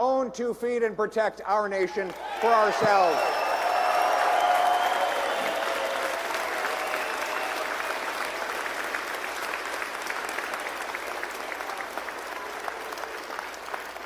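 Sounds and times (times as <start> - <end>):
large audience applauding: 2.1 - 14.0.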